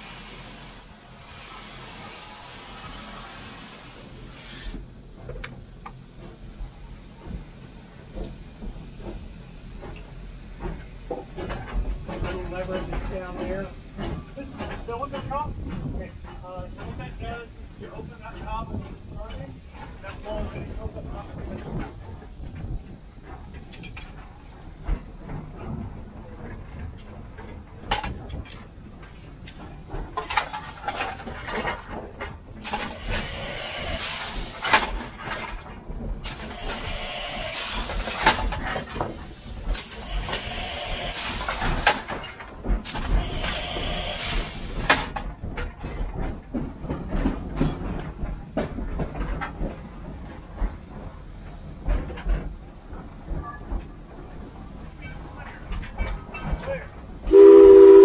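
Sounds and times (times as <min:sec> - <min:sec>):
steam locomotive venting steam: 0:00.0 - 0:58.0.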